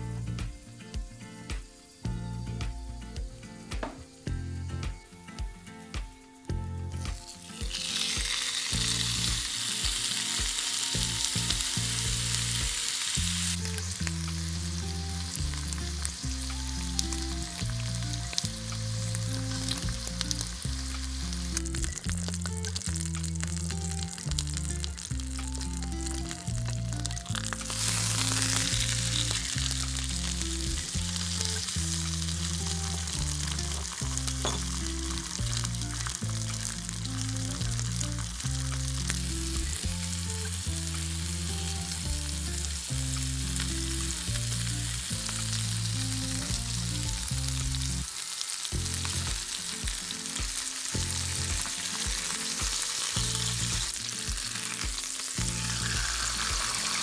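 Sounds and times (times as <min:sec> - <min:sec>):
background music with bass line: 0:00.0 - 0:48.1, 0:48.7 - 0:57.0
steak sizzling in grill pan: 0:00.0 - 0:57.0
butter foaming: 0:07.2 - 0:57.0.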